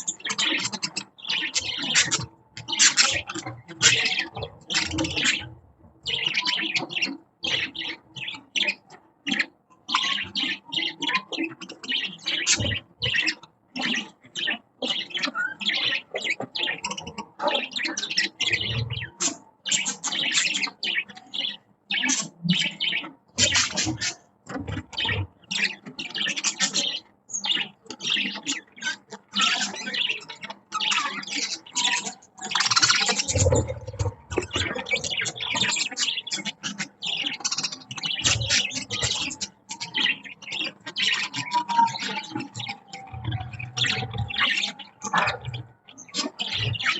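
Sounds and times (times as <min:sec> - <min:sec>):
budgerigars chirping: 0:00.0 - 0:46.9.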